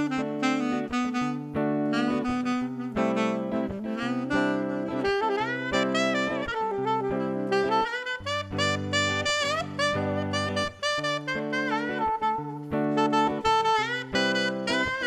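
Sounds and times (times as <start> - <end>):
alto saxophone melody: 0.0 - 15.0.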